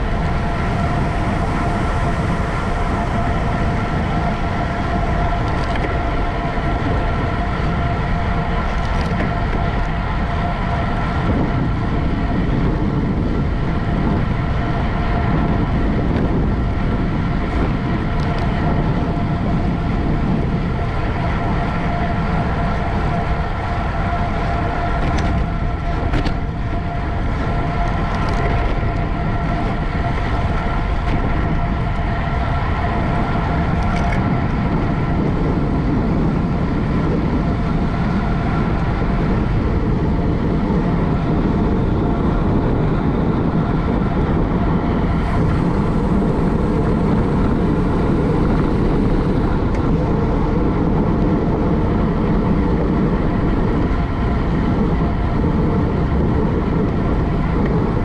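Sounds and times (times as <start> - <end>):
bike tyres and drivetrain hum: 0.0 - 58.0
wind rush over microphone: 0.0 - 58.0.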